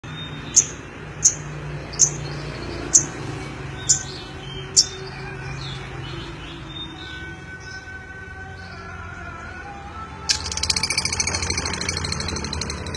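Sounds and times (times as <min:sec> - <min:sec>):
bird chirping: 0:00.0 - 0:07.9, 0:10.3 - 0:12.9.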